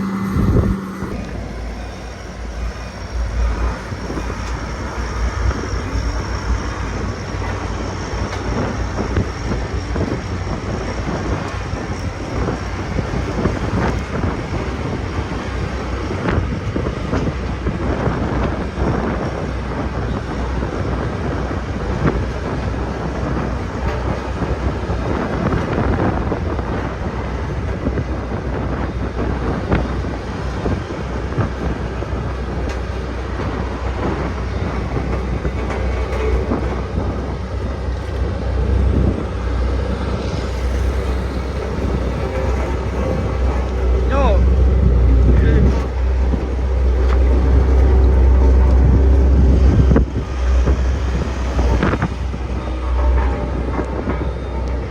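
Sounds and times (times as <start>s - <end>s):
rattling clatter: 0.0s - 54.9s
road roller engine drone: 0.0s - 54.9s.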